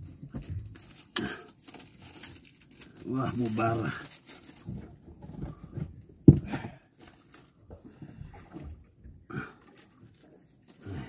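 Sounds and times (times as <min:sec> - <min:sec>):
line rustling and scraping: 0:00.0 - 0:08.9, 0:09.6 - 0:11.0.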